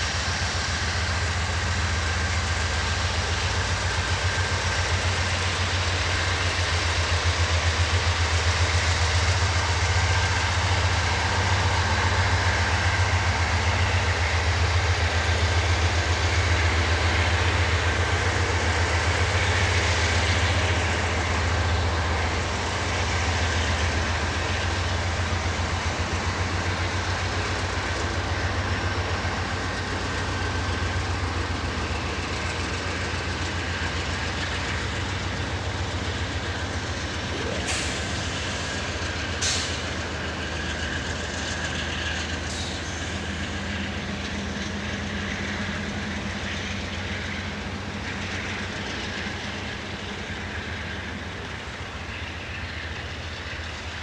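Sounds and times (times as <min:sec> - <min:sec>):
train rolling past: 0:00.0 - 0:54.0.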